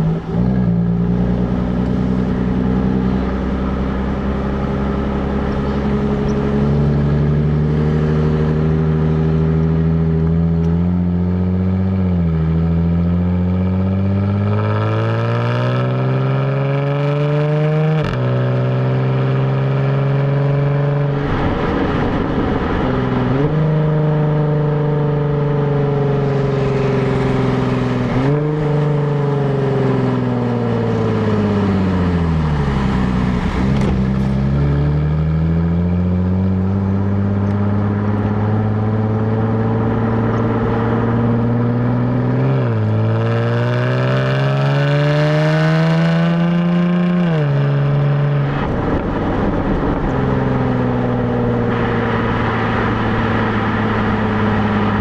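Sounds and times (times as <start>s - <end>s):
car engine accelerating: 0.0s - 55.0s
car exhaust while driving: 0.0s - 55.0s.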